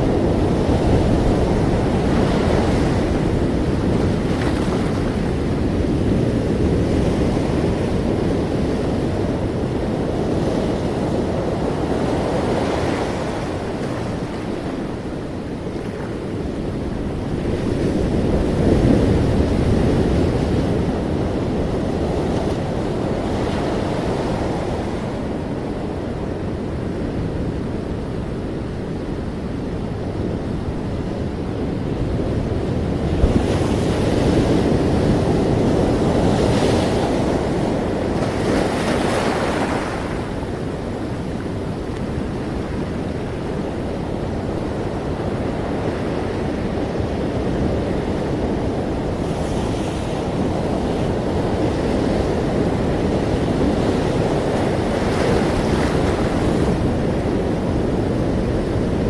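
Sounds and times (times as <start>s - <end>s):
ocean waves breaking: 0.0s - 59.0s
wind noise on microphone: 0.0s - 59.0s.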